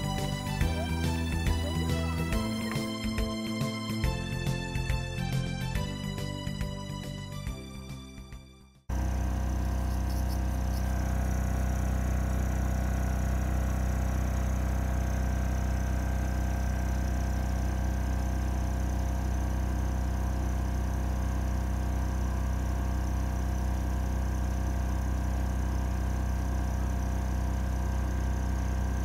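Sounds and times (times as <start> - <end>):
generator engine humming: 0.0 - 8.0, 8.9 - 29.0.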